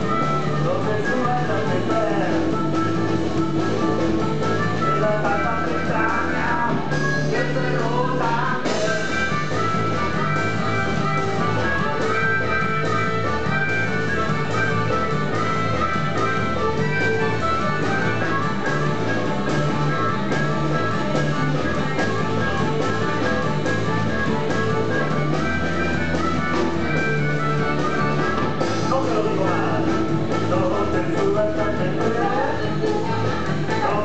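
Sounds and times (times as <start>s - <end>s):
harmonica: 0.0s - 34.0s
live blues band playing: 0.0s - 34.0s.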